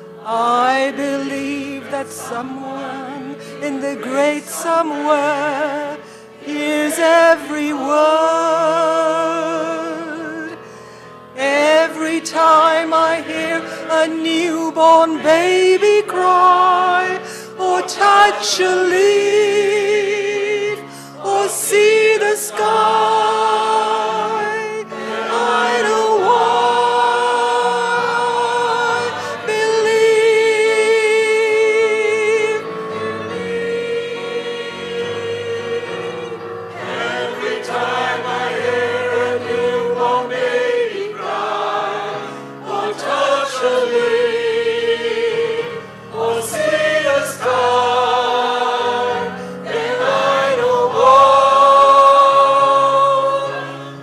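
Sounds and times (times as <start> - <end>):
choir singing slow song: 0.0 - 10.6, 11.3 - 54.0.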